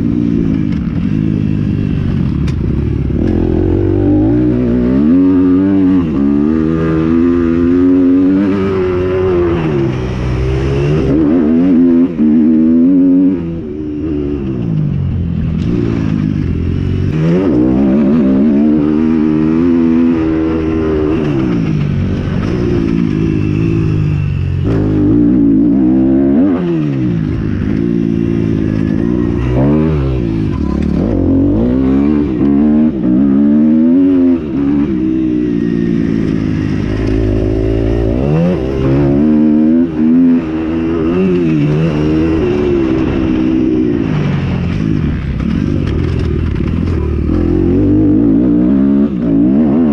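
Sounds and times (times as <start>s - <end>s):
motocross motorcycles revving: 0.0s - 49.9s.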